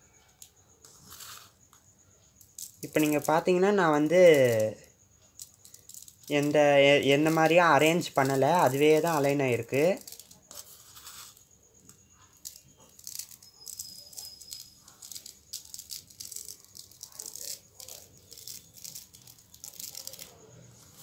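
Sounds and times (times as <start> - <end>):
iron filings rattling on paper: 2.4 - 21.0.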